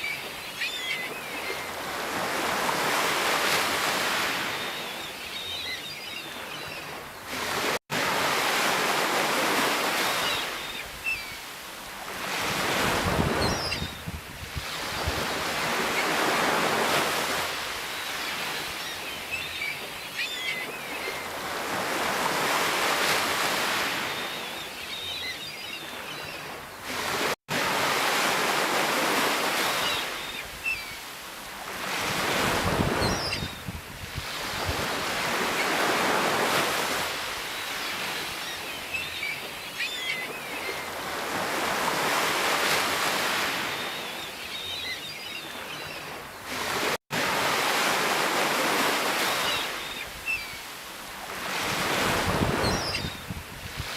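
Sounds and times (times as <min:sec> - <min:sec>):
sea waves breaking: 0:00.0 - 0:05.5, 0:06.3 - 0:13.8, 0:14.4 - 0:53.9.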